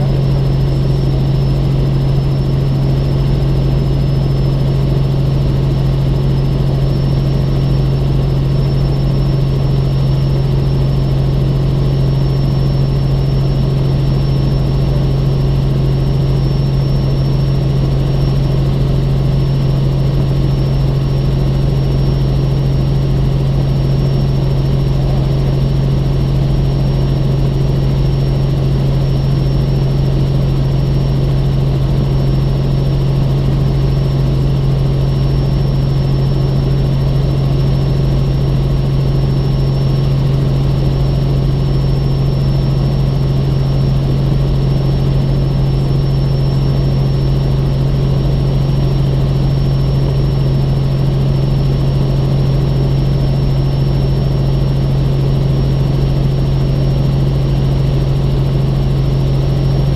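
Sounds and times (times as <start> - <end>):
helicopter drone: 0.0 - 59.9.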